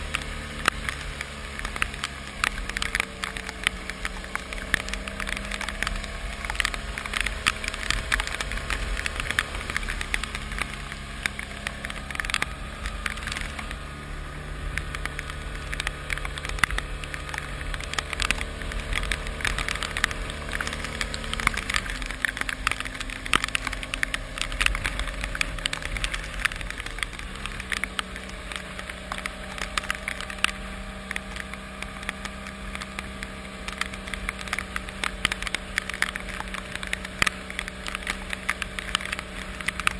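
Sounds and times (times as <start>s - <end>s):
rain crackling: 0.0s - 39.9s
vehicle engine humming: 0.0s - 39.9s.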